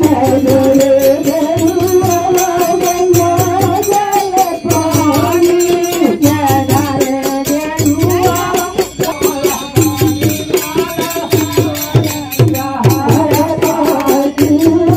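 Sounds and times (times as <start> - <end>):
jingling percussion: 0.0 - 14.9
man singing into a microphone: 0.0 - 14.9
steady drum beat: 0.0 - 14.9.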